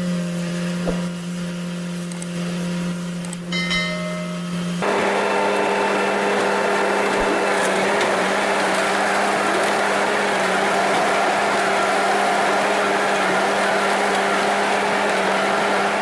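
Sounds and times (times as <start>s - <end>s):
machine humming and whirring: 0.0s - 16.0s.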